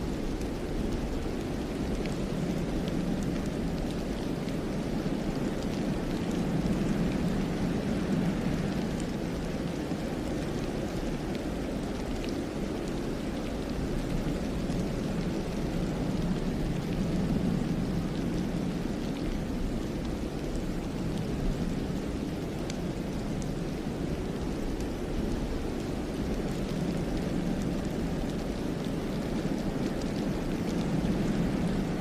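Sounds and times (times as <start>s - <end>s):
wind rushing through pines: 0.0s - 32.0s.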